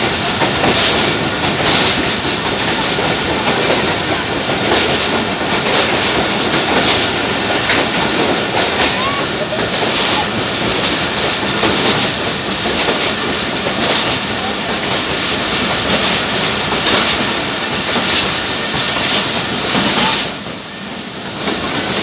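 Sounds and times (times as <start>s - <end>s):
train wheels clickety-clack: 0.0s - 22.0s.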